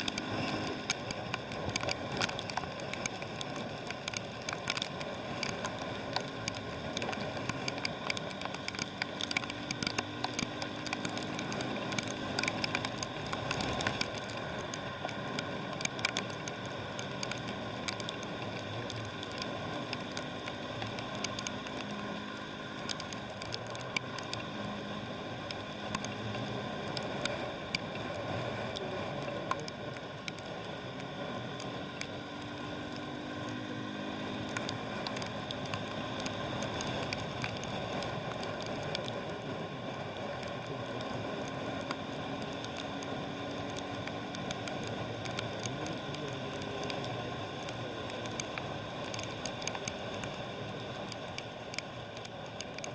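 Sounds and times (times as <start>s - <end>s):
low motorbike engine hum: 0.0s - 52.9s
raindrops hitting microphone: 0.0s - 52.9s
wet road noise: 0.0s - 52.9s.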